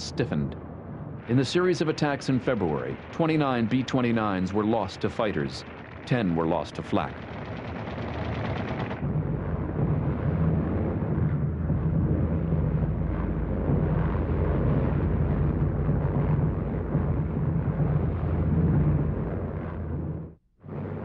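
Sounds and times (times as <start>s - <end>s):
propeller plane droning: 0.0s - 21.0s.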